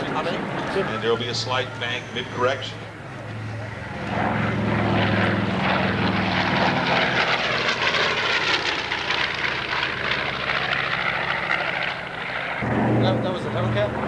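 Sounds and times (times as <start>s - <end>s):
propeller plane engines droning: 0.0s - 14.0s.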